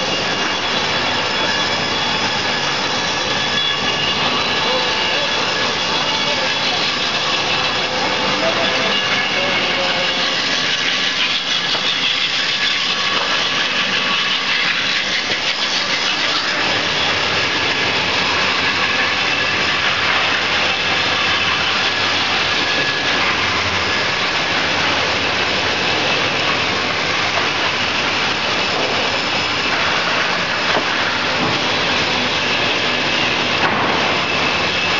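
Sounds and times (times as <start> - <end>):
sawing machine whining: 0.0 - 34.9.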